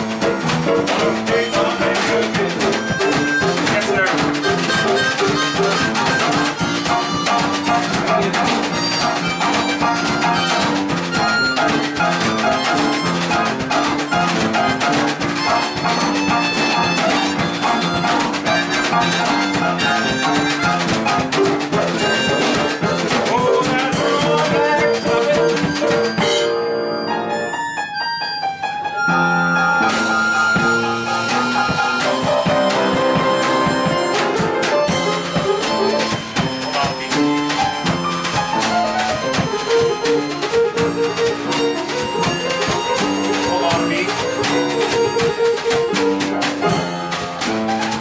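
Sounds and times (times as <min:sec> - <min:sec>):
drum kit with cymbals: 0:00.0 - 0:26.7, 0:29.8 - 0:48.0
blues band playing: 0:00.0 - 0:48.0
held melodic notes: 0:00.0 - 0:48.0.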